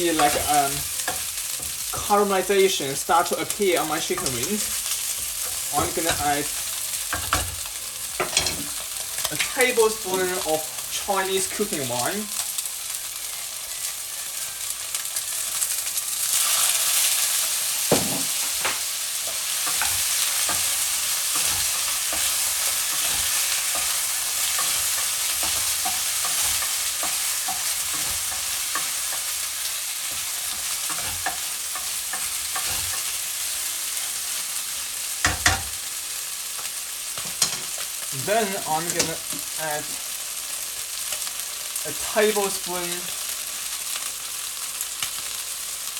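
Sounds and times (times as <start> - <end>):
chicken sizzling in frying pan: 0.0 - 45.9.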